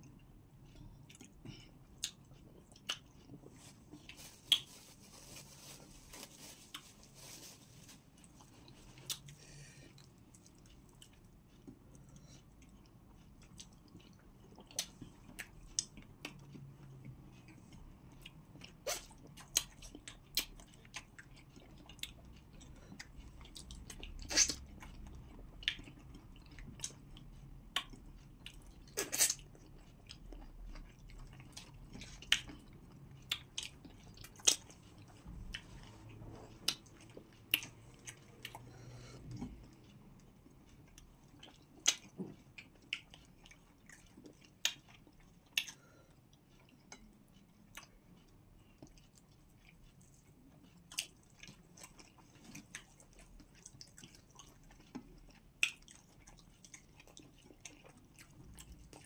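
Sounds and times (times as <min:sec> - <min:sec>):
people chewing: 0:00.0 - 0:59.0.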